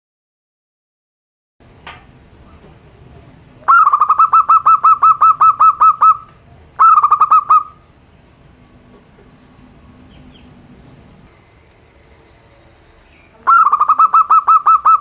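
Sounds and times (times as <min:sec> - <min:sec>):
dove cooing: 0:02.1 - 0:15.0.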